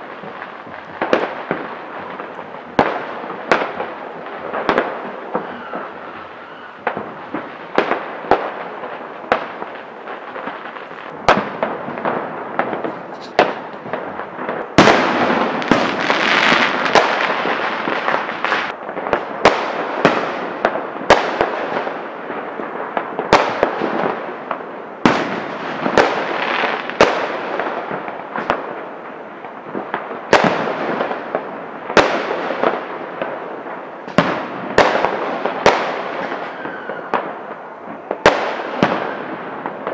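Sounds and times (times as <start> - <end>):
firecrackers crackling: 0.0 - 39.9
firework bangs: 0.0 - 39.9.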